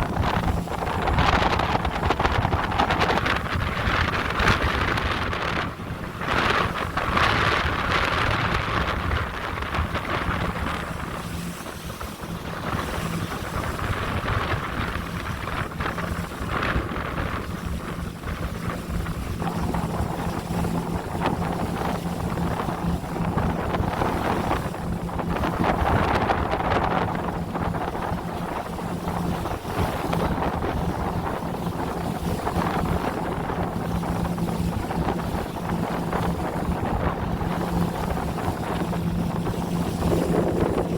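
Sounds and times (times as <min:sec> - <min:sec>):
boat engine drone: 0:00.0 - 0:40.9
rushing wind and water: 0:00.0 - 0:40.9
wind buffeting microphone: 0:00.0 - 0:40.9.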